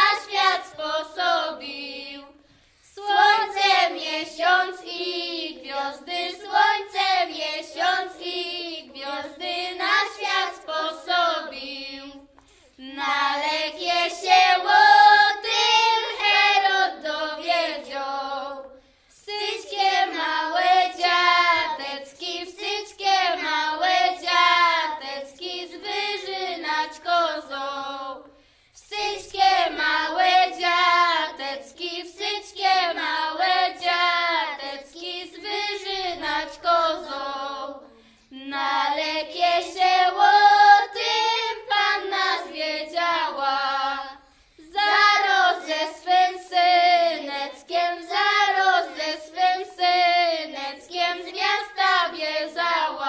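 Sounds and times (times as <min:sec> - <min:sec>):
children singing a carol: 0:00.0 - 0:53.0.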